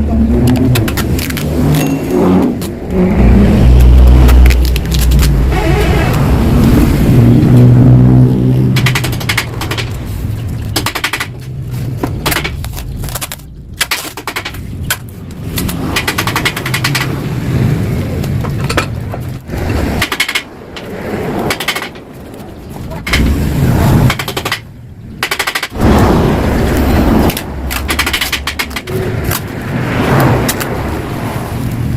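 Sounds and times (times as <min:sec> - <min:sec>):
exhaust crackling and popping: 0:00.0 - 0:31.9.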